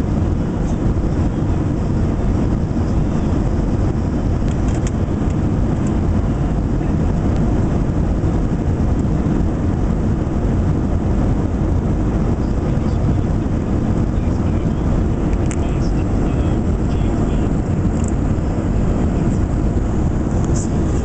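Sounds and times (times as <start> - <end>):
cabin air noise: 0.0 - 21.0
jet engines droning: 0.0 - 21.0.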